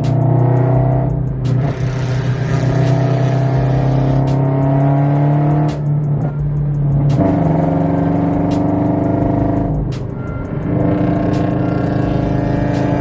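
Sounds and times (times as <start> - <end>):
loud car exhaust engine: 0.0 - 13.0.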